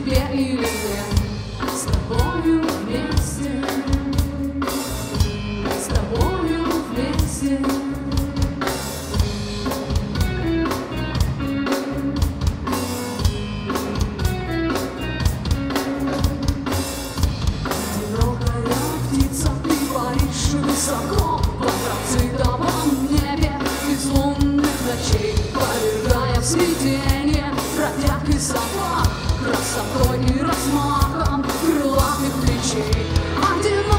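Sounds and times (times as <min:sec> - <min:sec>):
bass guitar: 0:00.0 - 0:33.9
drum kit beat: 0:00.0 - 0:33.9
electric guitar: 0:00.0 - 0:33.9.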